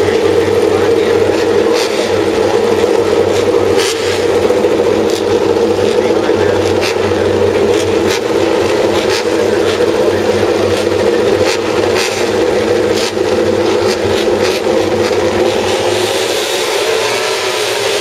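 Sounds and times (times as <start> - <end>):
race motorcycle engines droning: 0.0 - 18.0.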